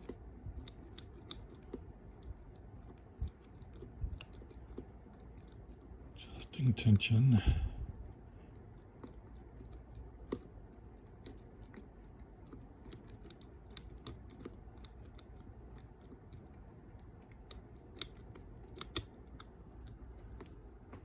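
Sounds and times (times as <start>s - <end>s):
lock picking metallic clicks: 0.0s - 6.0s, 8.0s - 20.6s.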